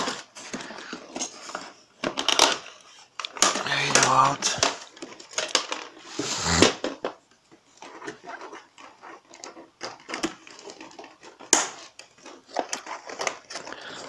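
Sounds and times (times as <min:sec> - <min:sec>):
packaging rustling and clicking: 0:00.0 - 0:14.0.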